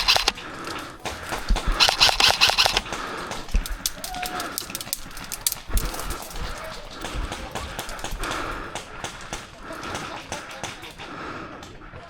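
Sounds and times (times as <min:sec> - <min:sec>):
sharp clicks: 0:00.0 - 0:11.1.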